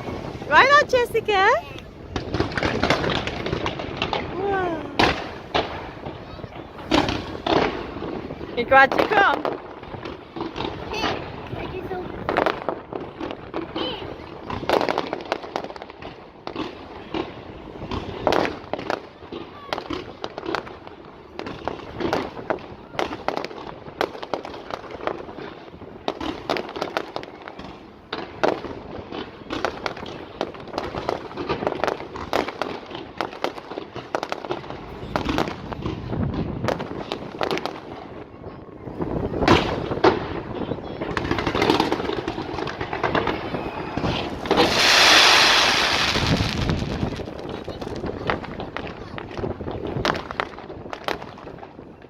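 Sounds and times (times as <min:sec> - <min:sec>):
fireworks hissing crackle: 0:00.0 - 0:38.3, 0:38.9 - 0:52.0
fireworks booms: 0:00.0 - 0:52.0
fireworks cracks and bangs: 0:00.0 - 0:52.0.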